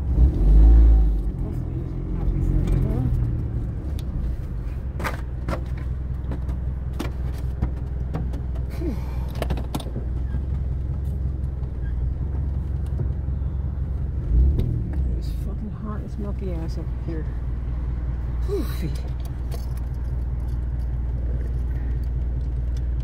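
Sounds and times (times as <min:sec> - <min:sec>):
car engine humming inside cabin: 0:00.0 - 0:23.0.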